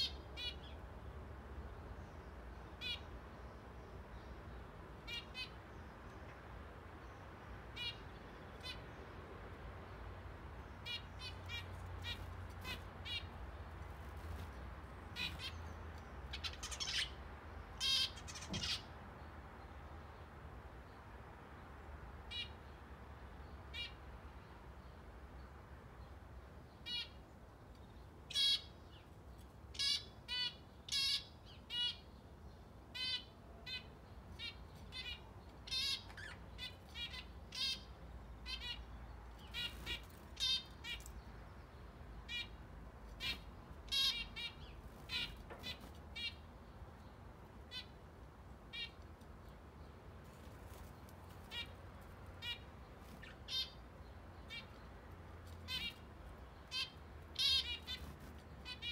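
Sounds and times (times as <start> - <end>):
birds chirping: 0.0 - 9.2, 10.4 - 20.3, 26.1 - 58.9.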